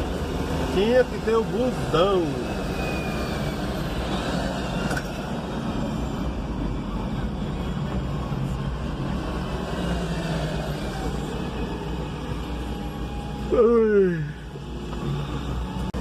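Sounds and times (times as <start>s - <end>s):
traffic engines and road noise: 0.0s - 16.0s.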